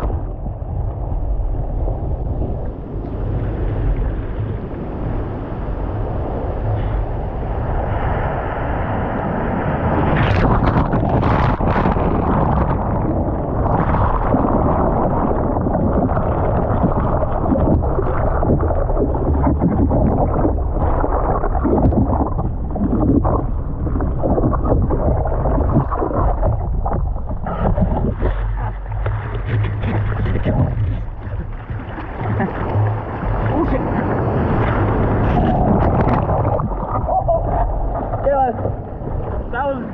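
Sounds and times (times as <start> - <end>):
ocean surf churning: 0.0 - 39.9.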